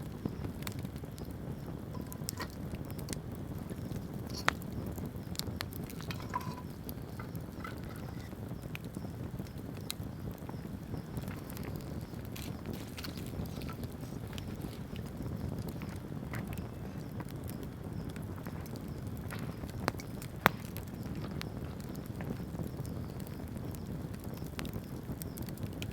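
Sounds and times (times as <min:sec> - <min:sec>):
campfire crackles and pops: 0:00.0 - 0:25.9
low steady fire rumble: 0:00.0 - 0:25.9.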